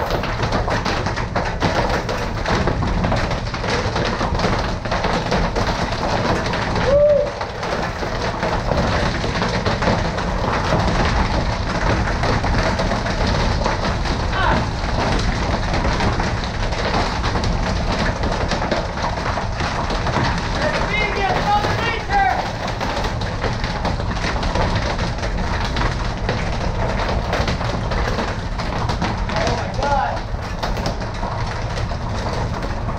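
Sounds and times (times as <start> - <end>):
hail and rain pelting down: 0.0 - 32.9.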